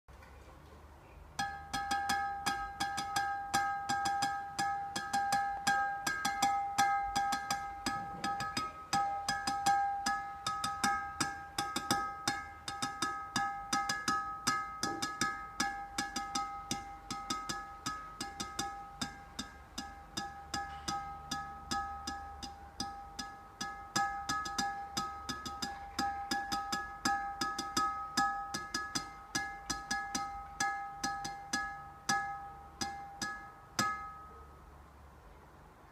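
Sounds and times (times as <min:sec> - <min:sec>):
sharp ringing taps: 0:01.4 - 0:34.6.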